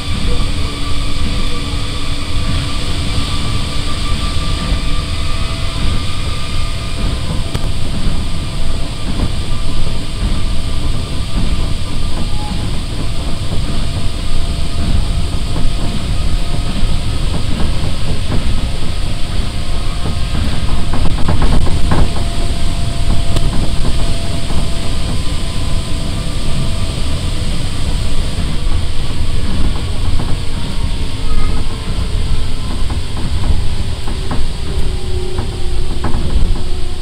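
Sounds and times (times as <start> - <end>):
motor whine: 0.0 - 37.0
rubber tyres rumbling on track: 0.0 - 37.0.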